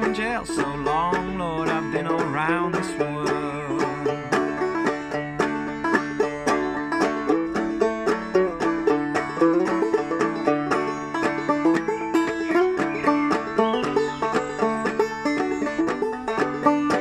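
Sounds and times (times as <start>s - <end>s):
banjo plucking: 0.0s - 17.0s.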